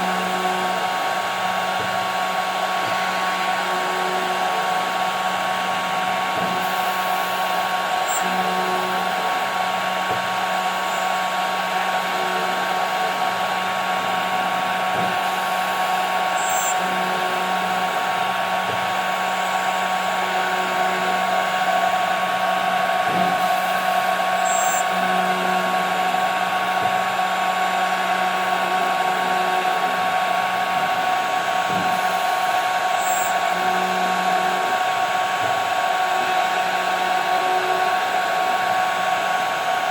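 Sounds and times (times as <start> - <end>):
machine motor hum: 0.0 - 39.9
router spindle whine: 0.0 - 39.9.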